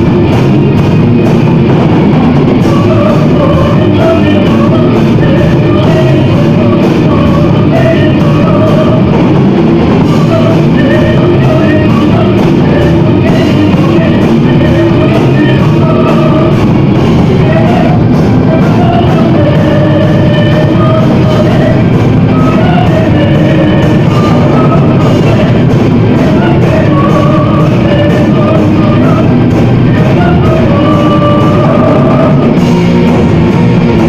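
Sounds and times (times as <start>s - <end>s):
distorted guitars: 0.0s - 34.0s
drums: 0.0s - 34.0s.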